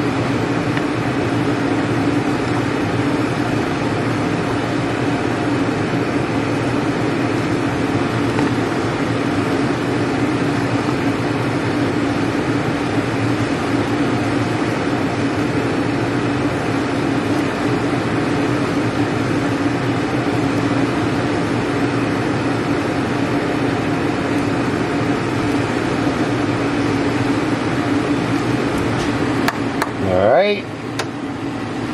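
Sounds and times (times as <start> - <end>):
steady mechanical hum: 0.0 - 31.9.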